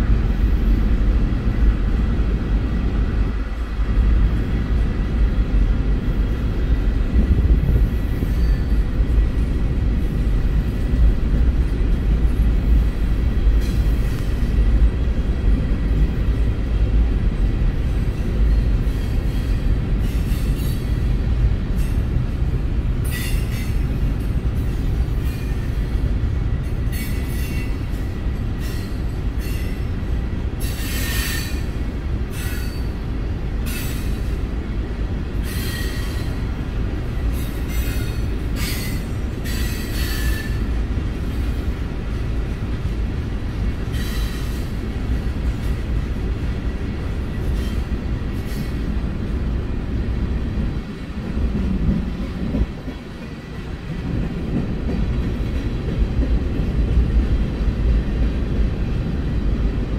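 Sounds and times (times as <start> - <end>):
freight train deep rumble: 0.0 - 59.9.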